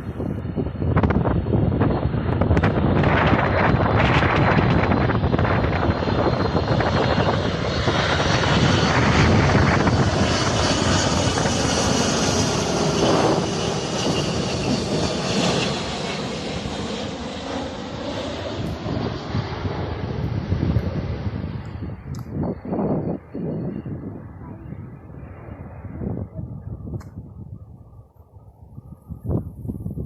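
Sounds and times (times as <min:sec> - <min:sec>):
airliner passing overhead: 0:00.0 - 0:30.0.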